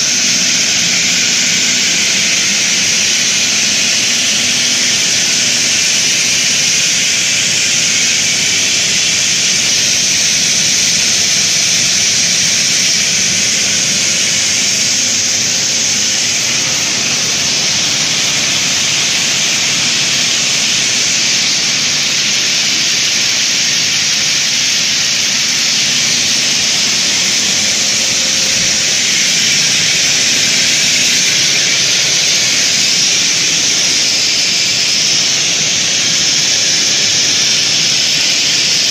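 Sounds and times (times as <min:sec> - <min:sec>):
wire drawing machine whirring: 0:00.0 - 0:38.9.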